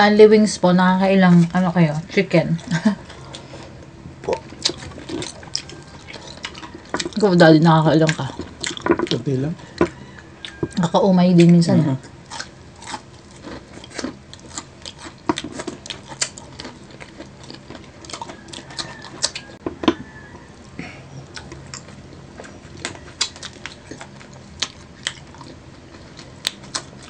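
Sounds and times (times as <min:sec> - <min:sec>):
crunching fried chicken: 0:02.4 - 0:27.0.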